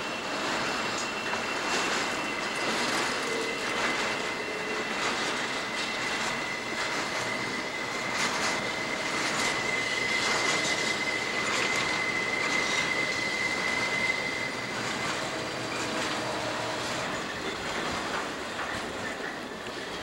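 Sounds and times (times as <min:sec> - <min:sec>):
train rumble: 0:00.0 - 0:20.0
train wheels squealing: 0:00.0 - 0:20.0.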